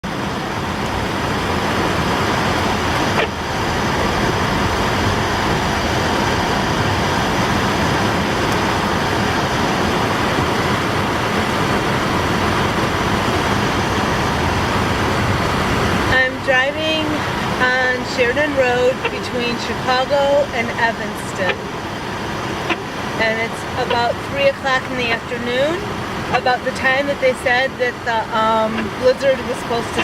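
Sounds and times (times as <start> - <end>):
car driving heard from inside: 0.0 - 30.0.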